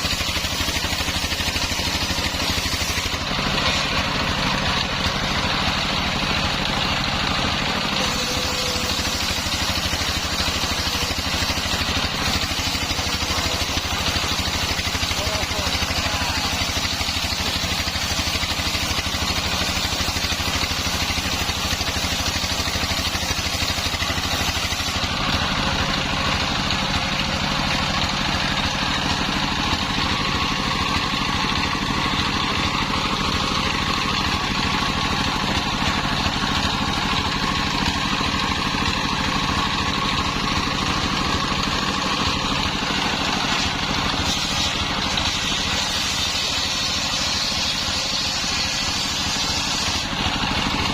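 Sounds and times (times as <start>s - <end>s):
engine-driven circular saw running: 0.0s - 50.9s.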